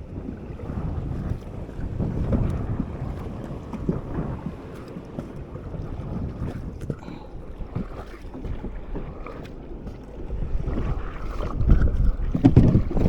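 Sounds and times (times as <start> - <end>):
water lapping around boat: 0.0 - 13.0
wind buffeting microphone: 0.0 - 13.0.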